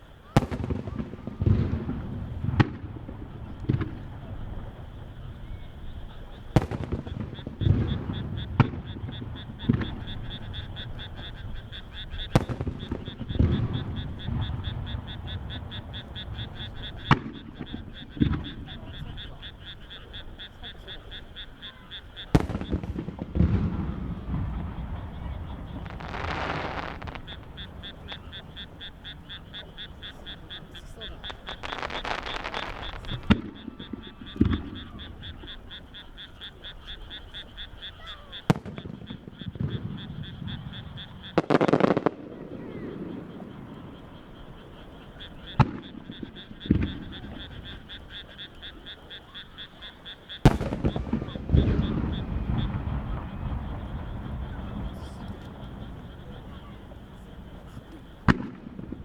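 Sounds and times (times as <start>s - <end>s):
crackling hiss: 0.0s - 59.0s
fireworks rumble: 0.0s - 59.0s
frog croaking: 0.0s - 59.0s.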